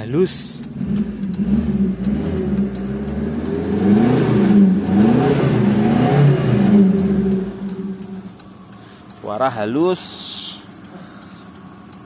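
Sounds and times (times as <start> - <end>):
van engine revving: 0.0 - 12.0.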